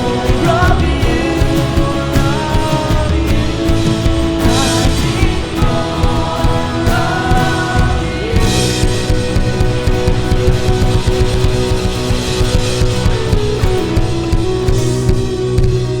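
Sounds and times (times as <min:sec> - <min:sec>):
drums: 0:00.0 - 0:16.0
guitars: 0:00.0 - 0:16.0
person singing: 0:00.0 - 0:16.0
rock worship band music: 0:00.0 - 0:16.0.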